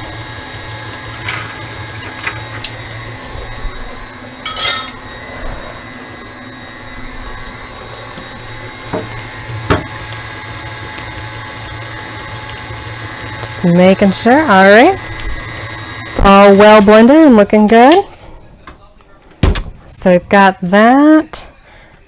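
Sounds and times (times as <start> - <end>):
stand mixer running: 0.0 - 18.2.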